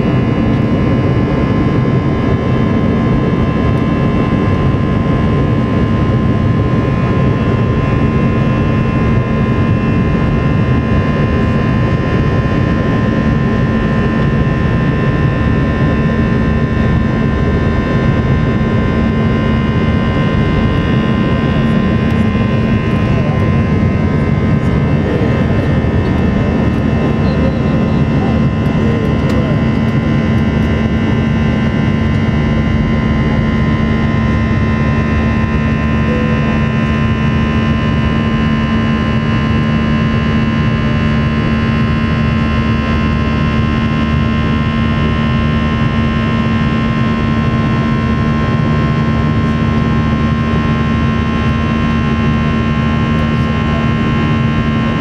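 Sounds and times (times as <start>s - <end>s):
jet engine whine: 0.0s - 55.0s
jet engines roaring: 0.0s - 55.0s.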